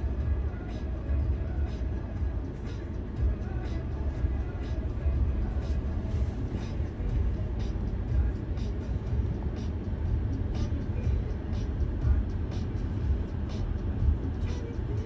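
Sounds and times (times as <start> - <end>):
low rumble inside moving car: 0.0 - 15.0.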